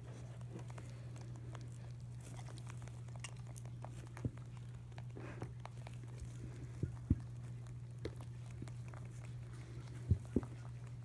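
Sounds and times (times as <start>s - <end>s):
rabbits rustling in hay: 0.0s - 11.0s
steady low hum: 0.0s - 11.0s.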